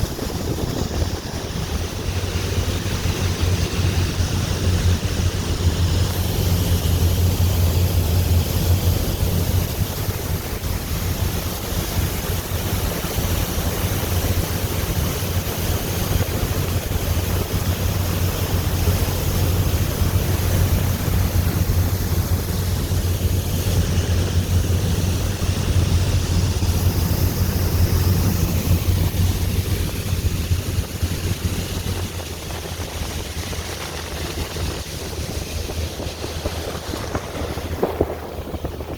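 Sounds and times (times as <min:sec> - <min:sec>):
boat engine drone: 0:00.0 - 0:38.9
water rushing past hull: 0:00.0 - 0:38.9
wind buffeting microphone: 0:00.0 - 0:38.9.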